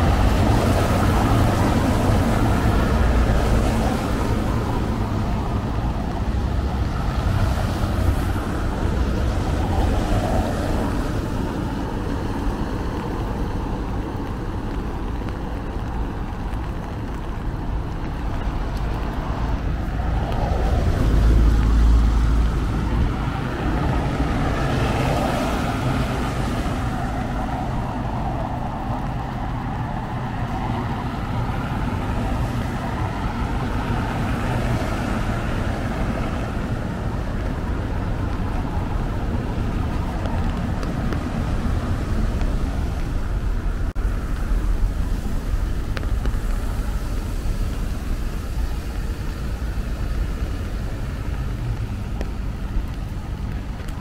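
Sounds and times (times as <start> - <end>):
vehicles passing on wet road: 0.0 - 54.0.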